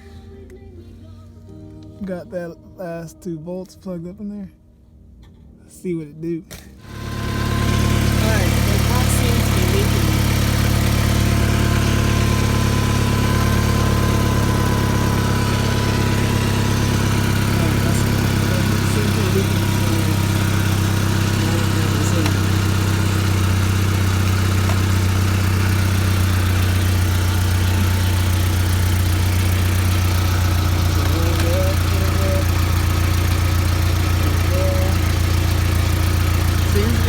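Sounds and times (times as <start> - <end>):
car engine idling: 6.8 - 37.0.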